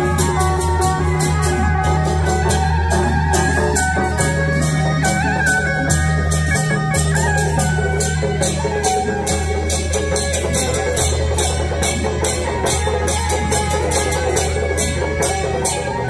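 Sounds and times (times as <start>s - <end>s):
drums and percussion beat: 0.0s - 16.0s.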